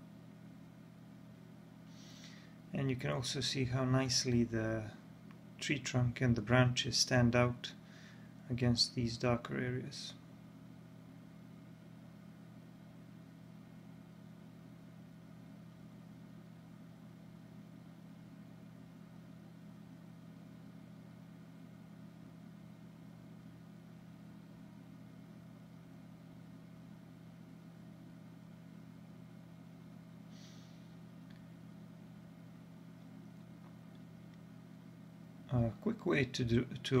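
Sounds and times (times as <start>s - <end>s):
faint low electrical hum: 0.0s - 37.0s.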